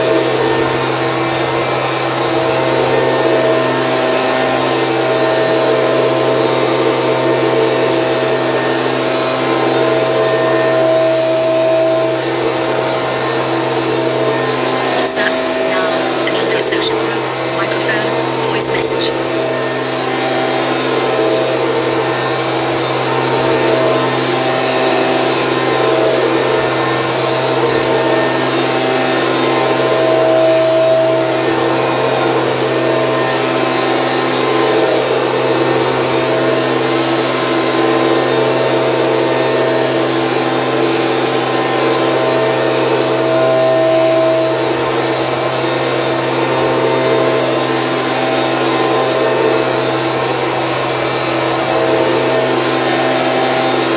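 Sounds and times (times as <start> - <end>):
leaf blower running: 0.0 - 16.2, 19.2 - 53.9.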